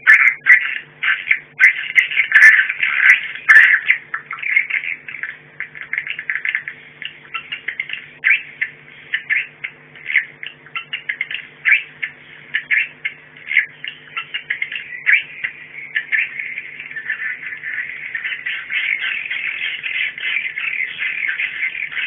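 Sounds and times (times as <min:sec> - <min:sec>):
faint steady low hum: 0:00.0 - 0:22.0.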